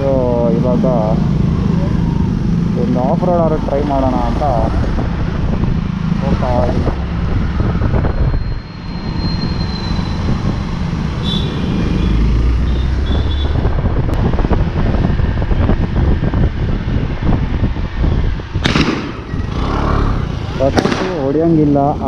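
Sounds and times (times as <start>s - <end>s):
wind rumble on microphone: 0.0s - 11.2s, 11.8s - 22.0s.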